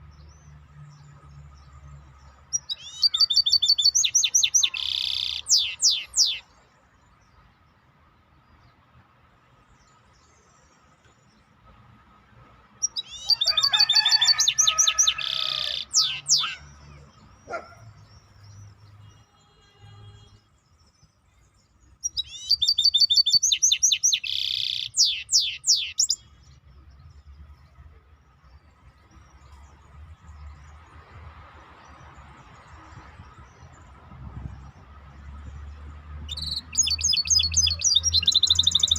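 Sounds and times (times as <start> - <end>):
songbird singing trills: 0.0 - 7.7, 12.7 - 31.2, 31.9 - 38.9.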